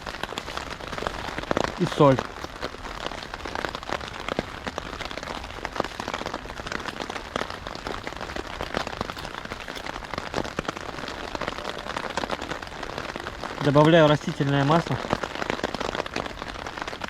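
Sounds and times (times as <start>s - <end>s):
heavy rain on a tarp: 0.0s - 17.0s.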